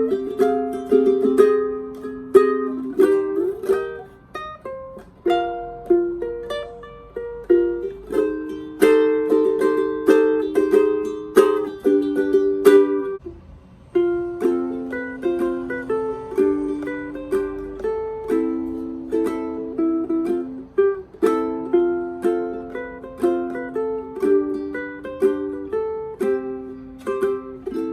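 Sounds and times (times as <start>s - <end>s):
fingerstyle ukulele playing: 0.0s - 27.9s.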